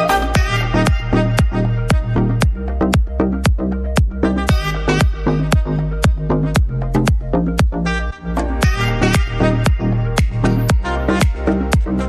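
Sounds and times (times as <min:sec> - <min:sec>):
upbeat electronic music: 0:00.0 - 0:12.0
steady kick drum: 0:00.4 - 0:07.8, 0:08.6 - 0:12.0.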